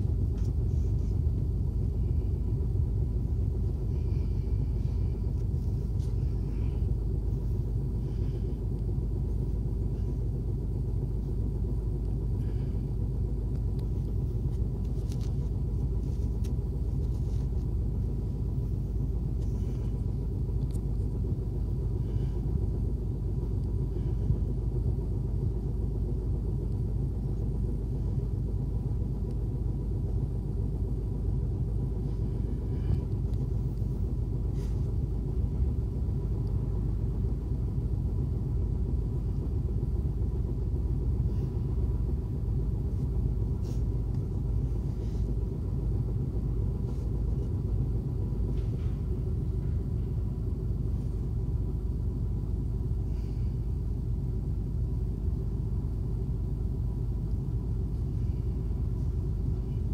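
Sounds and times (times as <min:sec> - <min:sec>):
bus engine rumble: 0:00.0 - 0:59.9.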